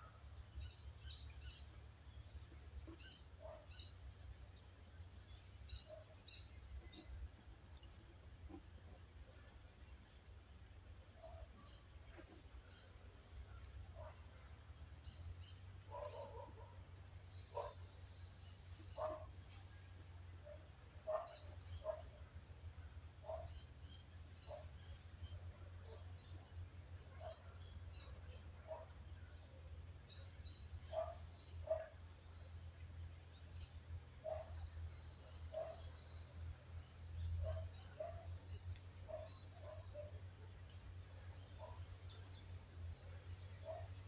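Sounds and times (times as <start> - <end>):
small birds chirping: 0.0 - 8.7, 11.1 - 44.0
steady low hum: 0.0 - 44.0.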